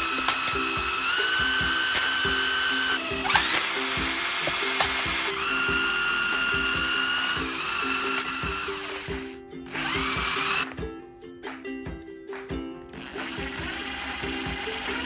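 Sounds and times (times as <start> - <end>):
cordless drill motor whining: 0.0 - 10.7, 13.0 - 15.0.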